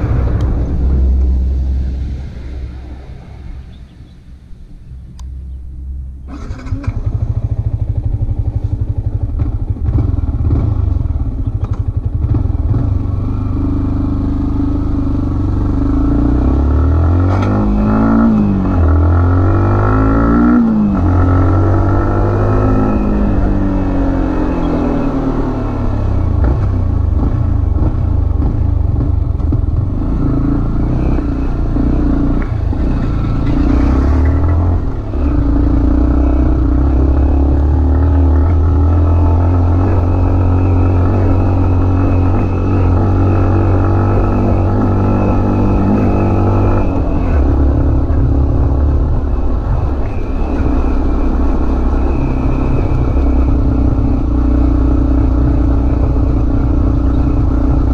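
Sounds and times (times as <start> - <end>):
motorcycle engine revving: 5.4 - 57.9.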